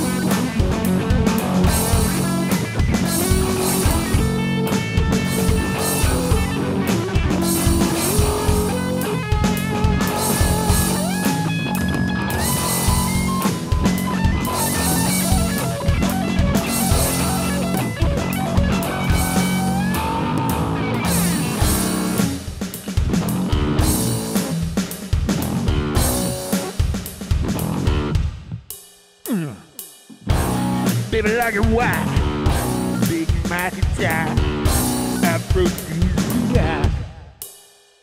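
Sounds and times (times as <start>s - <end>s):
electric guitar lead: 0.0s - 24.7s, 25.5s - 26.8s, 27.5s - 28.2s, 30.2s - 37.2s
drum kit beat: 0.0s - 38.0s.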